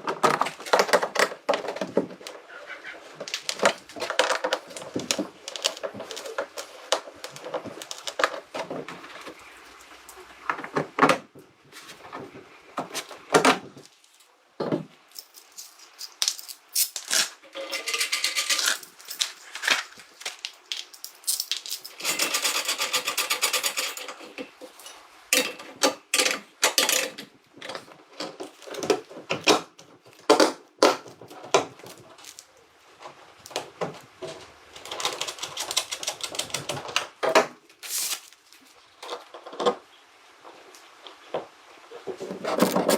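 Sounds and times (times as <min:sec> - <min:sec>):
small hard objects clattering: 0:00.0 - 0:10.6, 0:15.1 - 0:39.8, 0:42.2 - 0:42.9.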